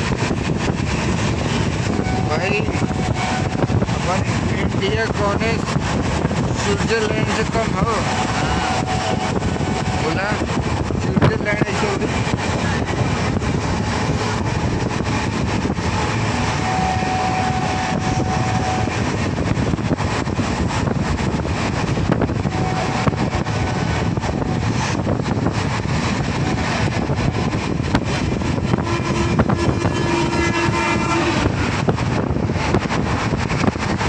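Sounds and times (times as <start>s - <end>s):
train rumbling and rattling: 0.0s - 34.0s.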